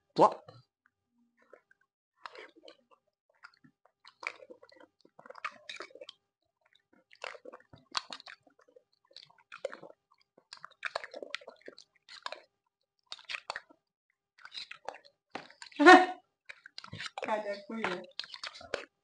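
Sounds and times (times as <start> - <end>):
wet chewing and mouth noises: 1.4 - 19.0.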